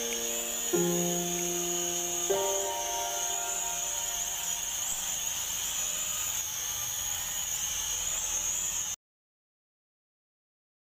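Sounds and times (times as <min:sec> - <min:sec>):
toy drone motors whining: 0:00.0 - 0:09.0.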